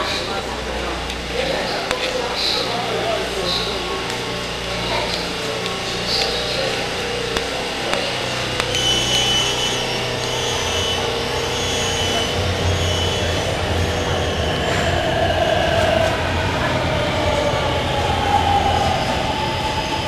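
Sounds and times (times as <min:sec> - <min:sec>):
thin high whine: 0:00.0 - 0:20.0
train rumble: 0:00.0 - 0:20.0.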